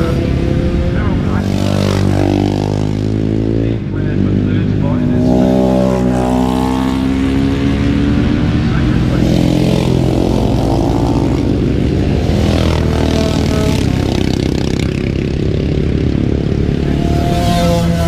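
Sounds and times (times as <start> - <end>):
racing motorcycles passing at speed: 0.0 - 18.0.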